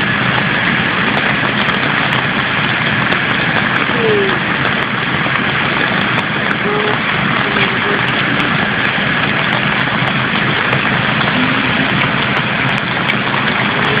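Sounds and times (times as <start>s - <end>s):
flood water rushing down street: 0.0s - 14.0s.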